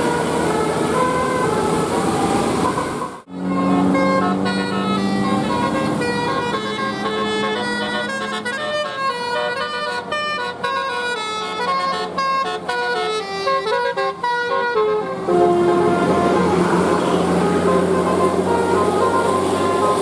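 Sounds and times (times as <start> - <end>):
multi-tone bus air horn tune: 0.0 - 20.0.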